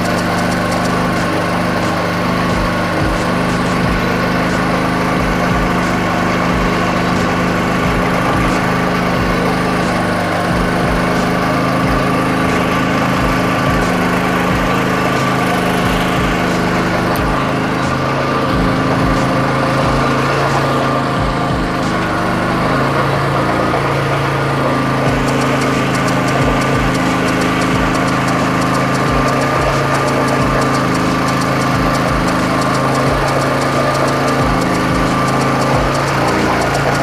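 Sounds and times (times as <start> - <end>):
small generator engine running: 0.0 - 37.0.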